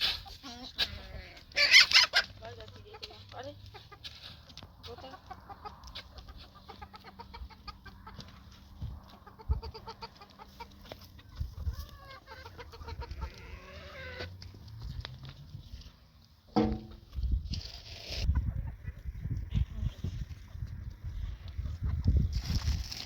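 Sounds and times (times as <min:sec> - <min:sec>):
chickens clucking: 0:00.0 - 0:17.3, 0:18.1 - 0:23.0.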